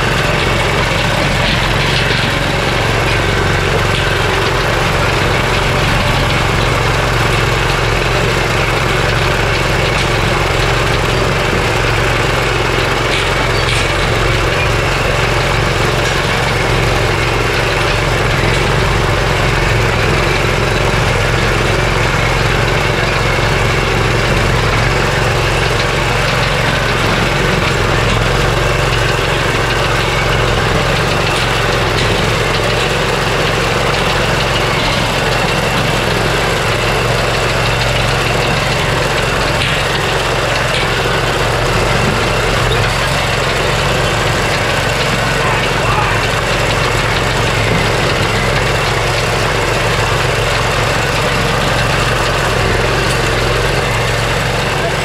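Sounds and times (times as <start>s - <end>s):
small gasoline engine running: 0.0s - 55.0s.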